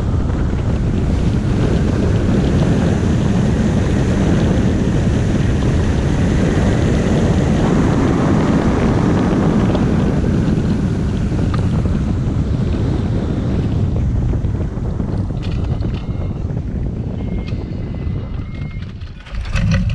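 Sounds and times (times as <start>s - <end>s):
wind rushing over microphone: 0.0s - 19.9s.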